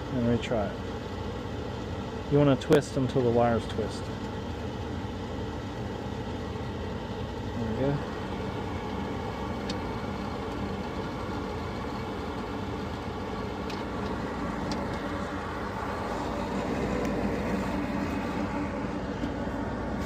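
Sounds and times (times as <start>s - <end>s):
furnace humming: 0.0s - 20.0s.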